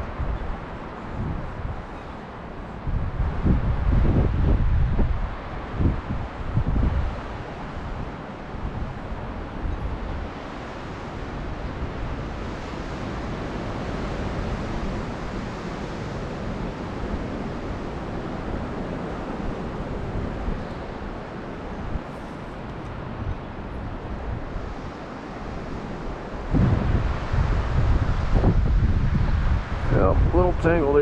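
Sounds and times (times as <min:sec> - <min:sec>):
river rushing: 0:00.0 - 0:31.0
wind buffeting microphone: 0:00.0 - 0:31.0.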